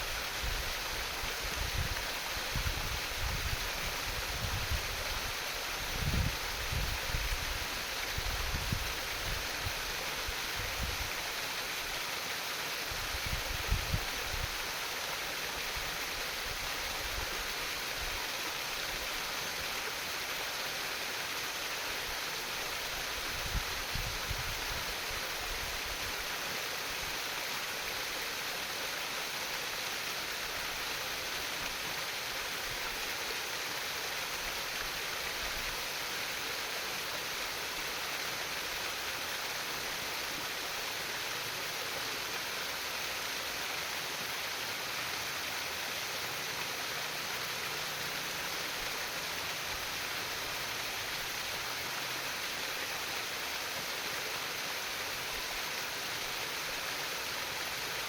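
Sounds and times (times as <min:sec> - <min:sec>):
stream trickling and babbling: 0:00.0 - 0:58.0.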